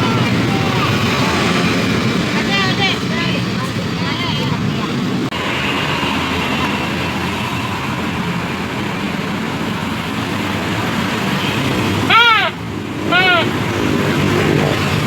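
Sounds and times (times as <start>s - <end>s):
vehicle noise: 0.0s - 15.0s.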